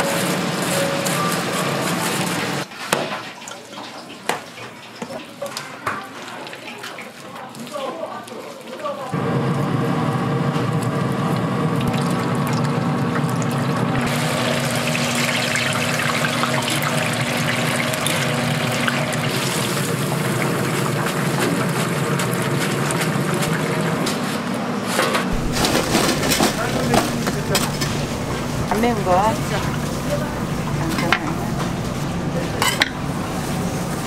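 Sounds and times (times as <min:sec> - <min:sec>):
chicken sizzling in deep fryer: 0:00.0 - 0:06.4, 0:09.1 - 0:34.0.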